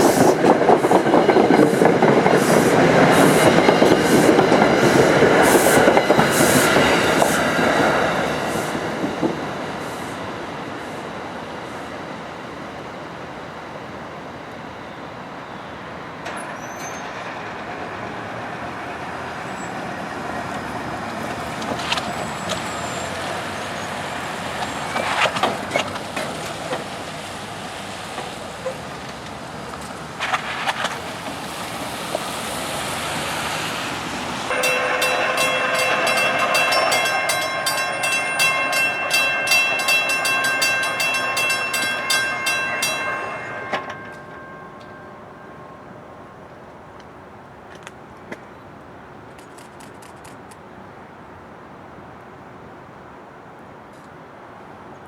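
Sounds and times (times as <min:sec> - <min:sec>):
sharp train clanks: 0:00.0 - 0:13.2, 0:15.9 - 0:48.4
train wheels rumbling on rails: 0:00.0 - 0:50.6.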